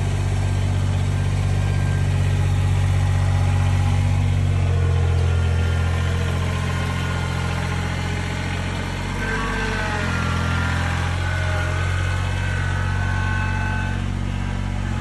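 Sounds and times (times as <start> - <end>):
faint whine sliding in pitch: 0.0 - 15.0
tractor diesel engine running: 0.0 - 15.0.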